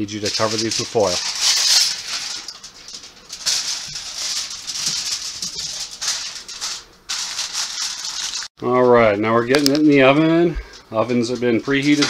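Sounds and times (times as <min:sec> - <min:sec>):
aluminium foil crinkling: 0:00.0 - 0:08.5, 0:10.7 - 0:12.0.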